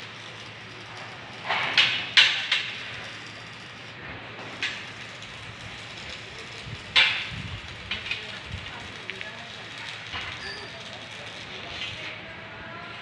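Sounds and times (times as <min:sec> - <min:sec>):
sharp welding bursts: 0:00.0 - 0:13.0.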